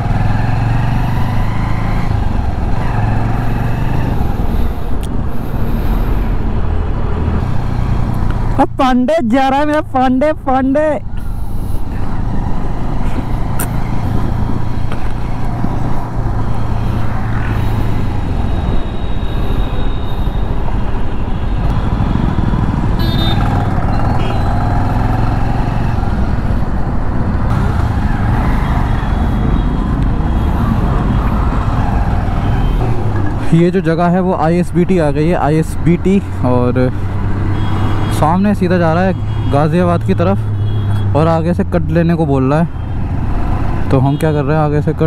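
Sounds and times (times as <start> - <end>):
road noise: 0.0 - 45.0.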